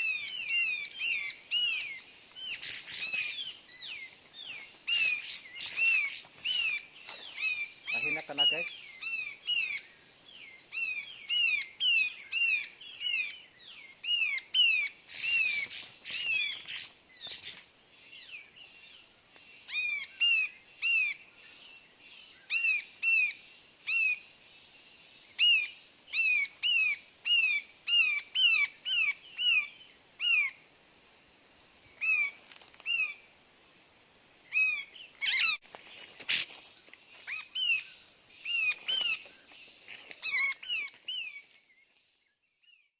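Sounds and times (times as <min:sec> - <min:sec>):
small birds chirping: 0:00.0 - 0:30.7, 0:31.8 - 0:33.3, 0:34.4 - 0:42.9.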